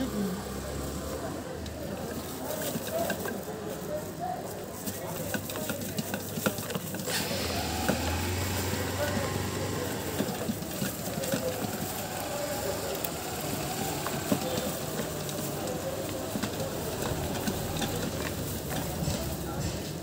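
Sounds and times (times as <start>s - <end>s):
voices: 0.0s - 20.0s.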